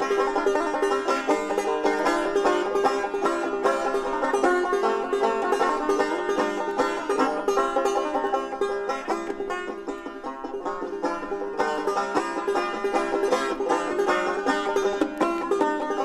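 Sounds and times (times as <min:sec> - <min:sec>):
banjo picking: 0:00.0 - 0:16.0
guitar accompaniment: 0:00.0 - 0:16.0.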